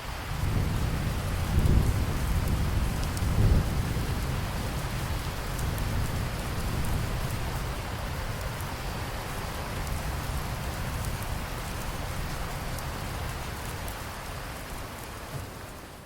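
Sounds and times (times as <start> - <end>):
steady rain falling: 0.0 - 16.0
low rumble of thunder: 0.3 - 13.8.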